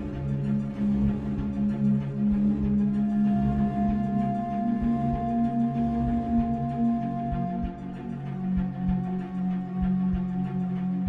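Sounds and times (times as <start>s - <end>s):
music with long-held low tones: 0.0s - 11.0s.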